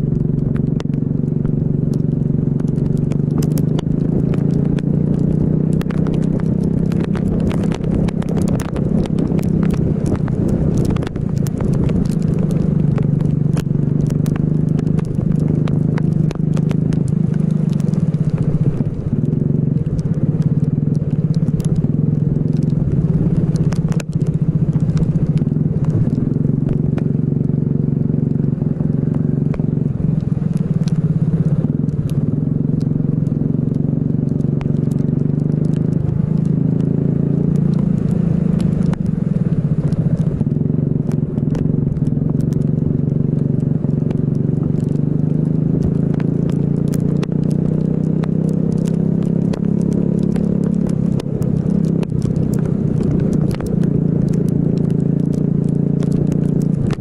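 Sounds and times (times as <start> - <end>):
sharp clicks and crackles: 0.0 - 57.0.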